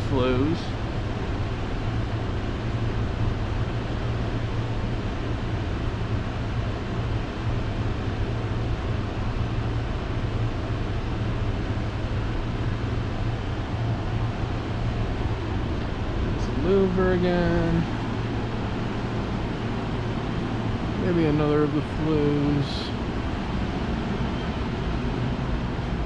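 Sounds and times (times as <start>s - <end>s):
low machinery hum: 0.0s - 26.0s.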